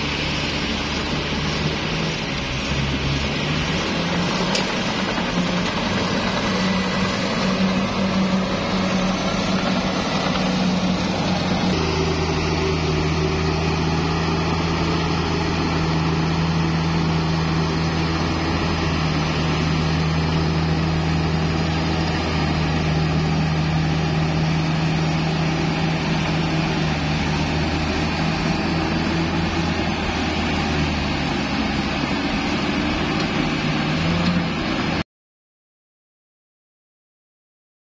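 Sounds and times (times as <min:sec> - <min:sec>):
bulldozer diesel engine humming: 0:00.0 - 0:35.0.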